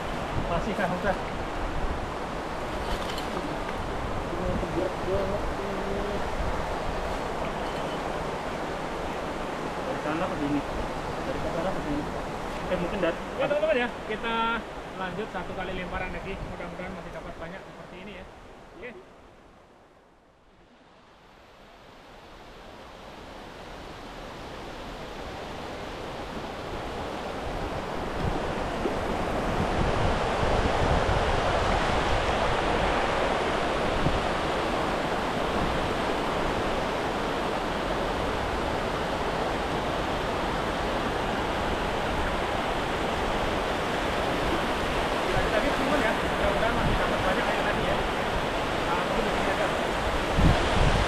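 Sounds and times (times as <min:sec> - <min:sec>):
small waterfall rushing: 0:00.0 - 0:19.3, 0:20.7 - 0:51.0.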